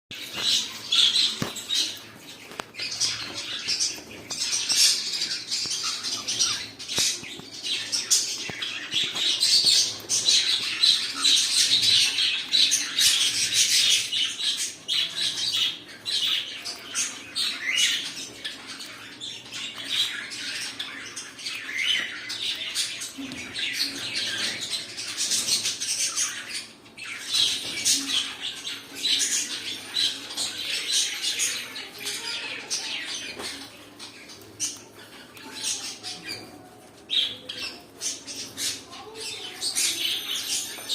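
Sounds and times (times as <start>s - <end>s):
cockatiels chirping and squawking: 0.2s - 40.9s.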